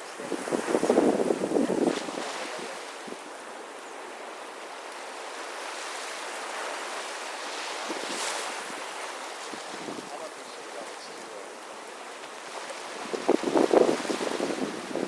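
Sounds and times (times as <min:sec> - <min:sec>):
sea surf washing on beach: 0:00.0 - 0:15.0.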